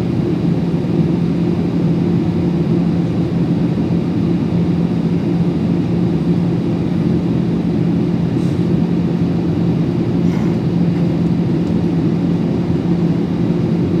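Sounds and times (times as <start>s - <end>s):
airliner cabin engine hum: 0.0s - 14.0s.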